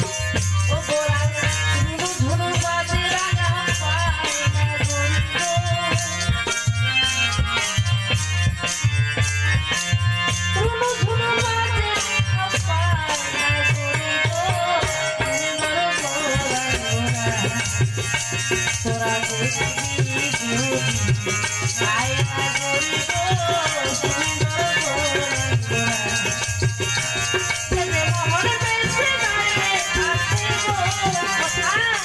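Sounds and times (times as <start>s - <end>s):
drum and shaker percussion: 0.0s - 32.0s.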